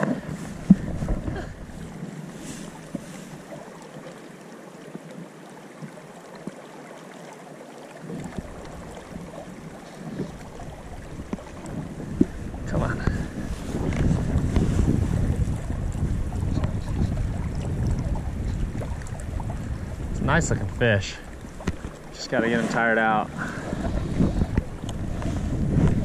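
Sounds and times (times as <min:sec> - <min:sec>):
wind rumbling on microphone: 0:00.0 - 0:03.6, 0:08.0 - 0:26.0
river water rushing: 0:00.0 - 0:25.5.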